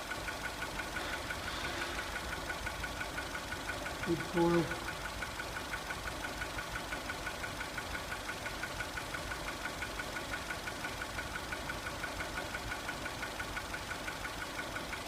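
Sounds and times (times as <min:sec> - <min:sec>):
car engine idling with ticking: 0:00.0 - 0:15.0.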